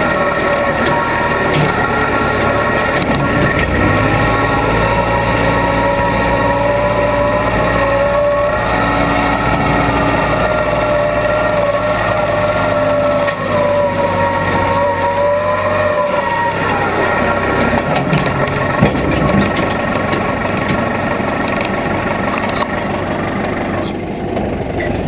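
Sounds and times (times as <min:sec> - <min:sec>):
backhoe engine humming: 0:00.0 - 0:25.0.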